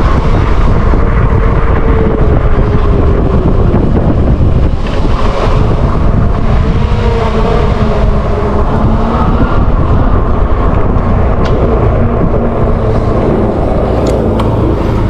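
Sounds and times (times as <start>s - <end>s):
bike road noise: 0.0s - 15.0s
electric motor whine: 0.0s - 15.0s
wind rumbling on microphone: 0.0s - 15.0s.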